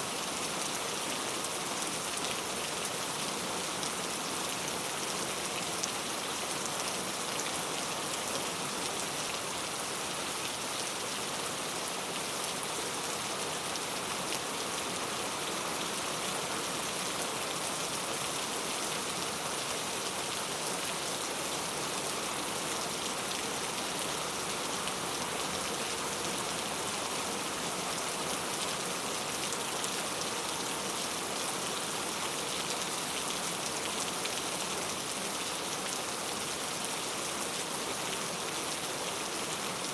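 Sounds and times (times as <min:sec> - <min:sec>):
heavy rain on street: 0:00.0 - 0:39.9.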